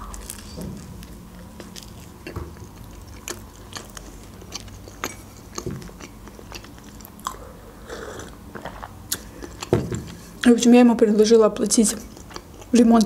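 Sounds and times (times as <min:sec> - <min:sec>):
chewing with wet mouth smacks: 0:00.0 - 0:07.4, 0:08.2 - 0:10.6, 0:11.9 - 0:13.0.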